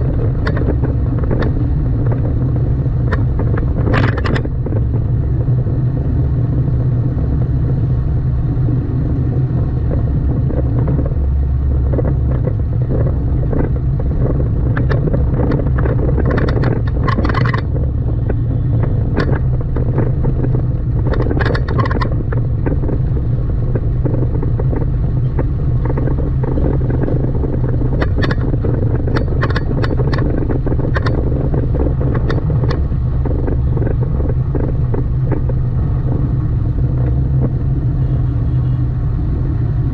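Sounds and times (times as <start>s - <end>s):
car engine and road noise: 0.0s - 39.9s
passing traffic: 0.0s - 39.9s.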